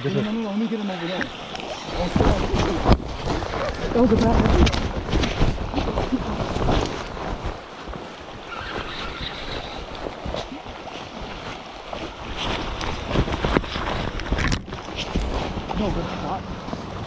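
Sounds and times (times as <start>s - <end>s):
river water rushing: 0.0s - 17.0s
footsteps through grass: 1.9s - 17.0s
wind buffeting microphone: 1.9s - 17.0s.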